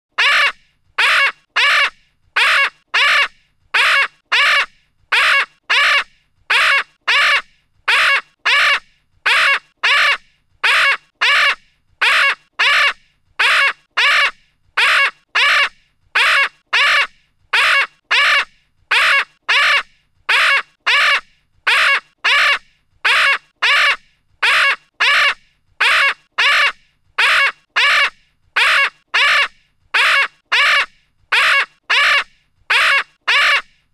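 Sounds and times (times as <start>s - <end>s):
parrot squawking: 0.2s - 33.7s.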